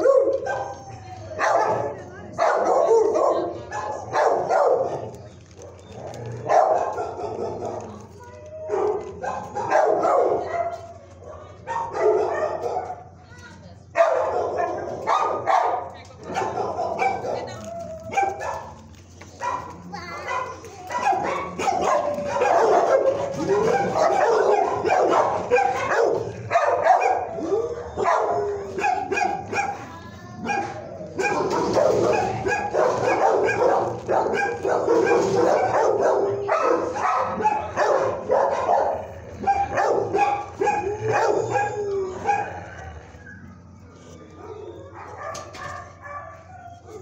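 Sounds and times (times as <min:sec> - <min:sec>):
dogs barking and howling: 0:00.0 - 0:13.2, 0:13.9 - 0:47.0.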